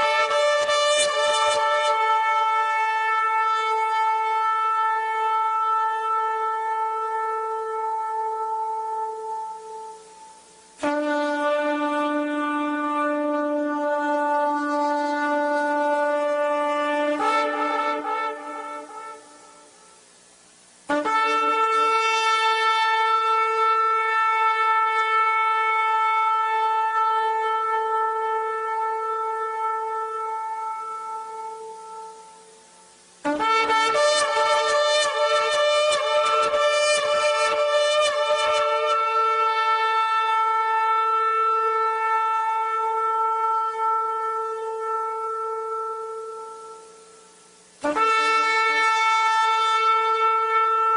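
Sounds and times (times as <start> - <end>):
long horn blast: 0.0 - 50.9.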